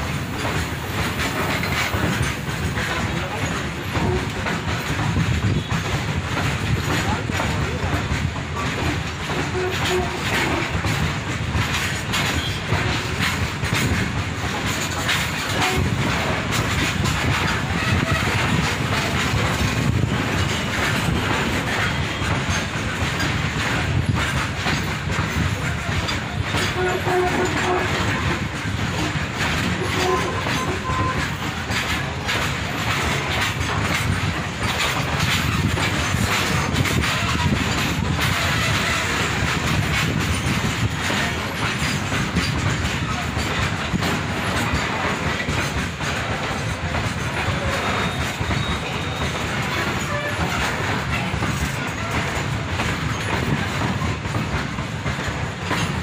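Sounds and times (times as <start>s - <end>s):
freight train rumbling past: 0.0s - 56.0s
train wheels clickety-clack: 0.0s - 56.0s.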